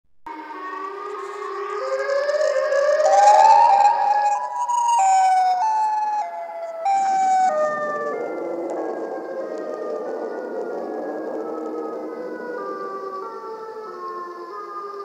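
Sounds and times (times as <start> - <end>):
siren-like wail sound effect: 0.3 - 15.0.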